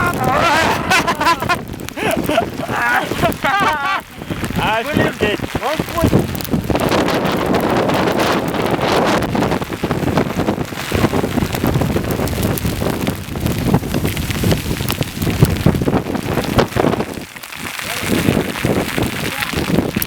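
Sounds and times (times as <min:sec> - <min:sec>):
hail pelting down: 0:00.0 - 0:20.0
wind gusting over microphone: 0:00.0 - 0:20.0.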